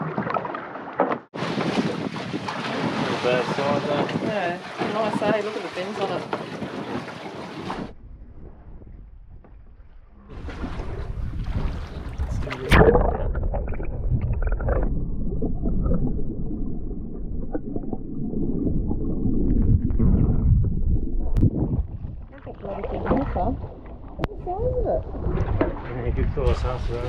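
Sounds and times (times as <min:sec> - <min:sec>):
muffled underwater water rush: 0:00.0 - 0:27.0.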